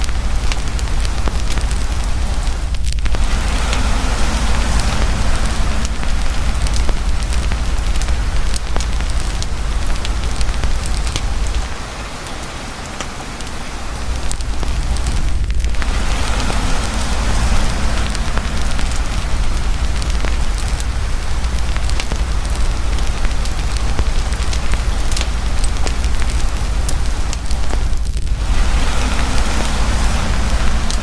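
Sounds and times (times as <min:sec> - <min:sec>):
campfire popping and snapping: 0:00.0 - 0:31.0
constant low rumble: 0:00.0 - 0:31.0
rain hiss: 0:00.0 - 0:31.0.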